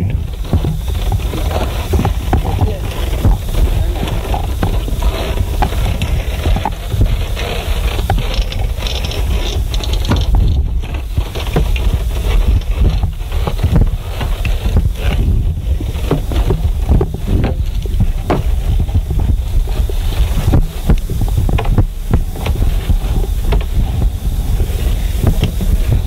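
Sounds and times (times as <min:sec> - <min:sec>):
microphone handling noise: 0:00.0 - 0:26.0
suspension walkway creaking underfoot: 0:00.0 - 0:26.0
wind rumble on microphone: 0:00.0 - 0:26.0.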